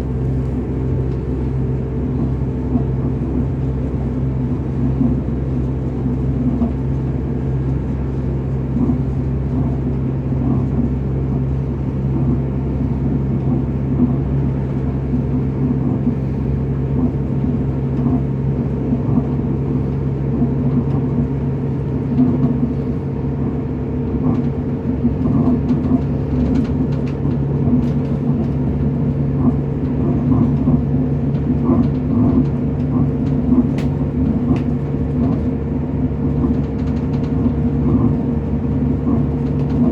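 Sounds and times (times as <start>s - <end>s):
train rumbling along: 0.0s - 39.9s.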